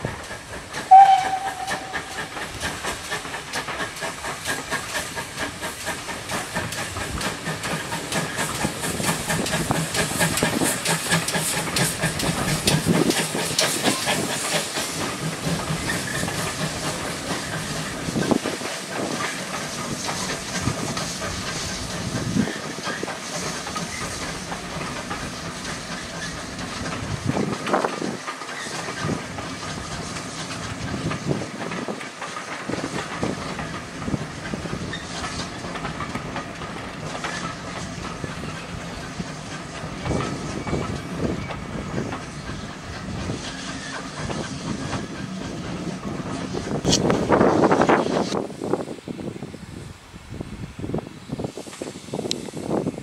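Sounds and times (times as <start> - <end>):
train wheels knocking on rail joints: 0.0 - 48.4
steam hissing: 0.0 - 53.0
steam locomotive chuffing: 0.0 - 53.0.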